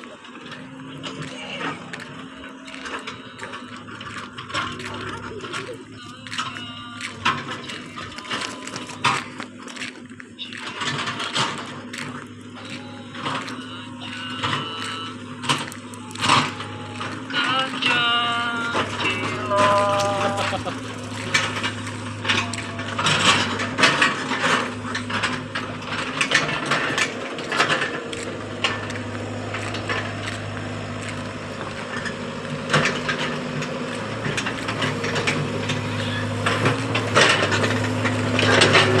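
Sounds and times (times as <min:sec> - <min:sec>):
excavator engine hum: 0:00.0 - 0:39.0
machine clanks and knocks: 0:00.0 - 0:39.0.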